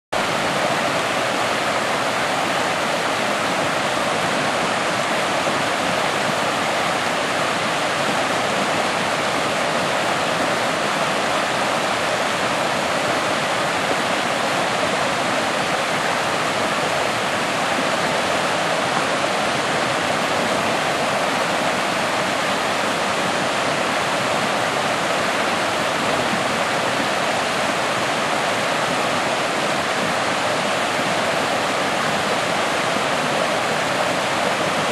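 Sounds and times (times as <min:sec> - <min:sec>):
stream rushing over boulders: 0:00.2 - 0:34.9.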